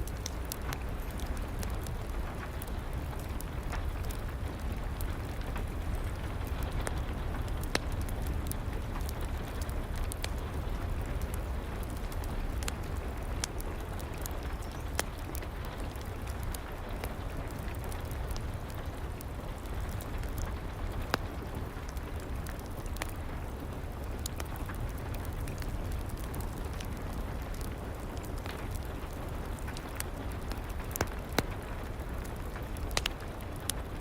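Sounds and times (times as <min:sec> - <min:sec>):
steady rain: 0:00.0 - 0:34.0
wood fire crackling and popping: 0:00.0 - 0:34.0.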